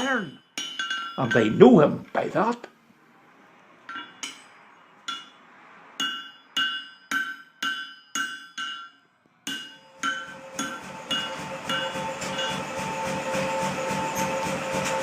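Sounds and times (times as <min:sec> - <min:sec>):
hammer striking an anvil: 0:00.0 - 0:01.6, 0:03.9 - 0:05.4, 0:06.0 - 0:15.0.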